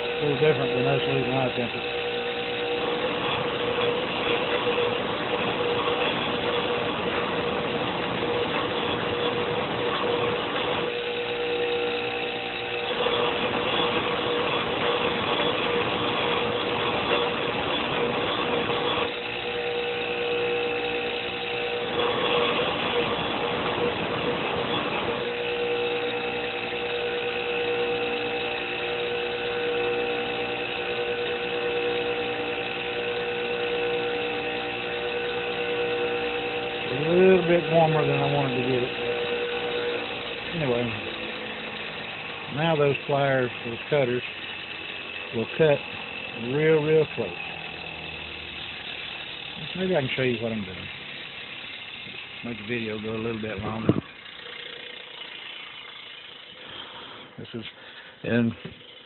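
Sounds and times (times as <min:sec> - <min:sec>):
electric grinder motor running: 0:00.0 - 0:59.0
steel grinding on grinding wheel: 0:00.0 - 0:59.0.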